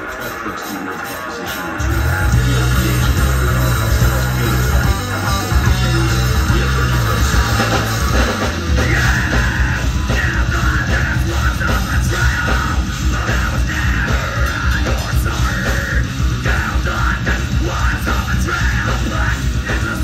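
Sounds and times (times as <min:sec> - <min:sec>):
bass guitar: 0:00.0 - 0:20.0
drums: 0:00.0 - 0:20.0
electric guitars: 0:00.0 - 0:20.0
person singing: 0:00.0 - 0:20.0.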